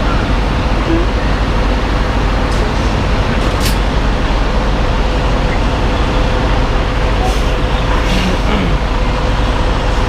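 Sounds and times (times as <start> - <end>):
truck diesel engine running: 0.0 - 10.0.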